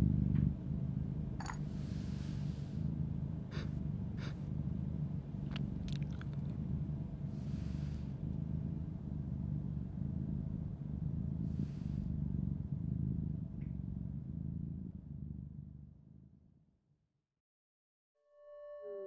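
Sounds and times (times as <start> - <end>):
low steady rumble: 0.0 - 16.6.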